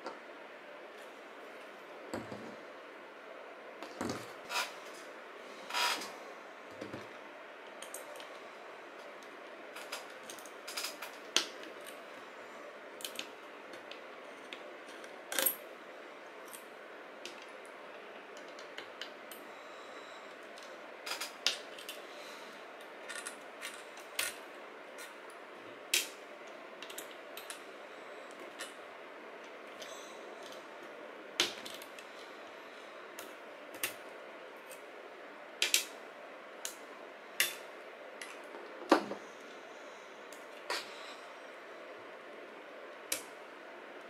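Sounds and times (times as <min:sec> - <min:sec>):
faint steady hiss: 0:00.0 - 0:44.0.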